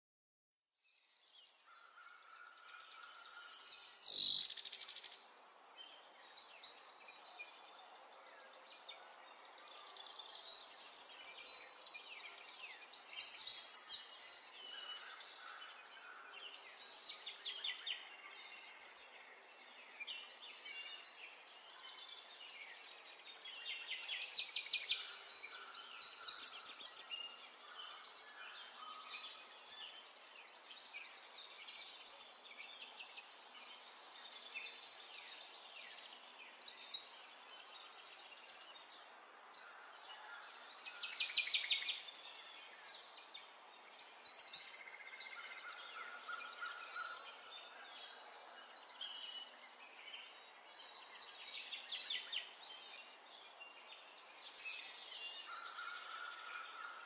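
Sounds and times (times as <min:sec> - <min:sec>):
songbirds trilling and chirping: 0:00.6 - 0:57.0.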